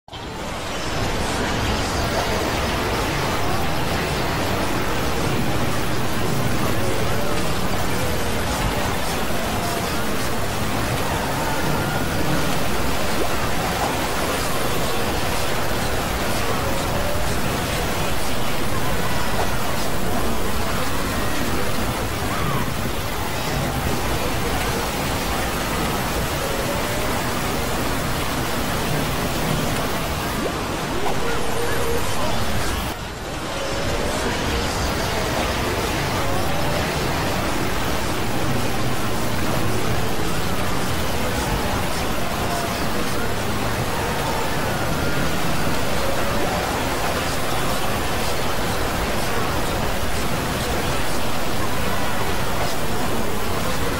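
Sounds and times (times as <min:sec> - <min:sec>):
faint voices: 0:00.0 - 0:53.9
noise-like hiss: 0:00.1 - 0:53.9.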